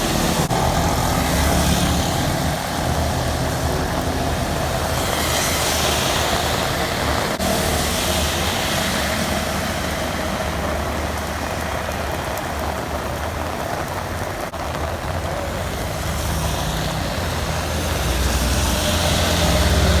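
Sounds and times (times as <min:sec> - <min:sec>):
low engine rumble: 0:00.0 - 0:20.0
rain: 0:00.0 - 0:20.0
road traffic noise: 0:00.0 - 0:20.0.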